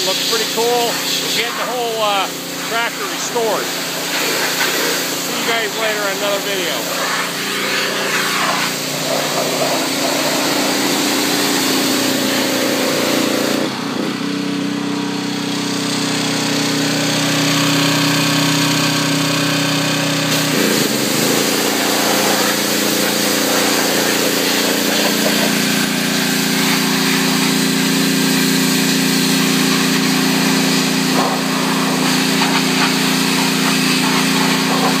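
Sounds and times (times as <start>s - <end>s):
water jet hissing on metal: 0.0s - 13.5s, 20.3s - 35.0s
pressure washer motor hum: 0.0s - 35.0s.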